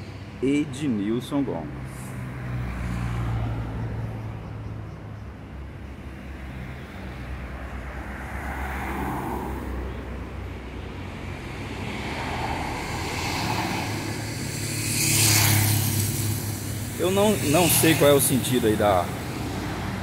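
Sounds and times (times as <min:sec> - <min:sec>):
cars passing: 0:00.0 - 0:20.0
low traffic hum: 0:00.0 - 0:20.0.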